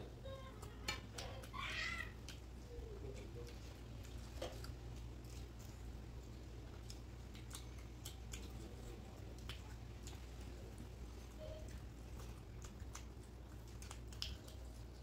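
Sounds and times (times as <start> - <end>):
chewing: 0.0 - 15.0
steady low hum: 0.0 - 15.0
fingers squishing rice: 0.1 - 15.0.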